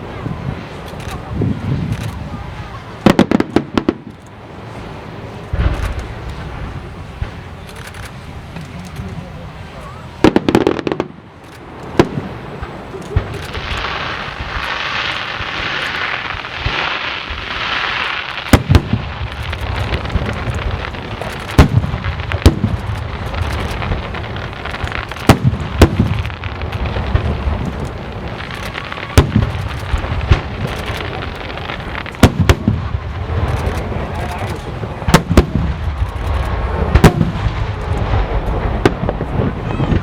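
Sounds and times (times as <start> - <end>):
continuous rumble: 0.0 - 40.0
fireworks booms: 0.0 - 40.0
fireworks crackling: 0.0 - 40.0.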